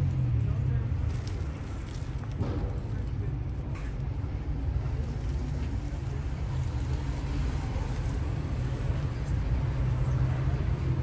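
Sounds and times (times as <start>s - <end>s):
street background rumble: 0.0s - 11.0s.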